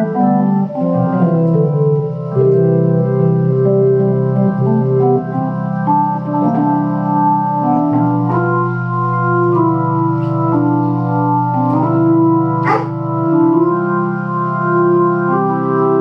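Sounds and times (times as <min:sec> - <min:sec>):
organ playing sustained chords: 0:00.0 - 0:16.0.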